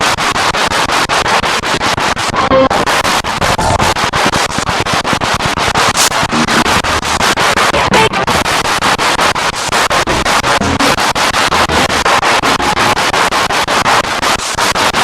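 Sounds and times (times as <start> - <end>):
pulsing radio static: 2.2 - 15.0.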